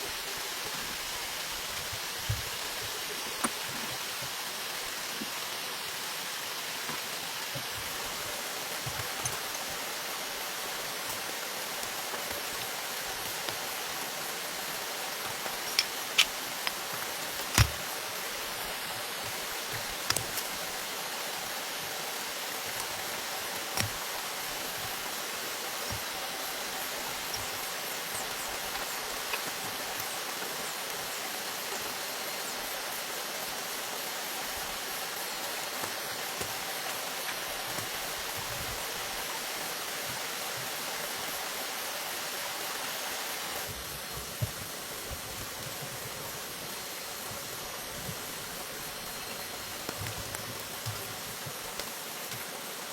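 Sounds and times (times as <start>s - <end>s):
flowing water rushing: 0.0s - 52.9s.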